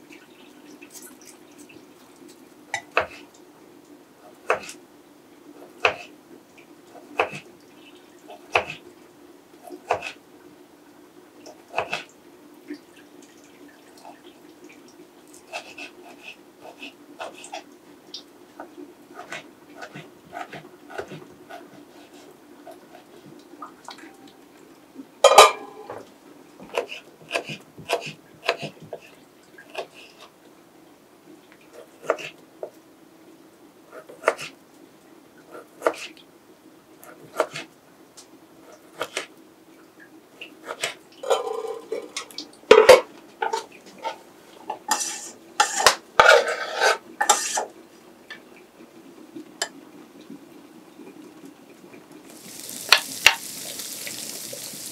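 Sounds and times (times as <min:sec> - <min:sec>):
faint steady hum: 0:00.0 - 0:46.2.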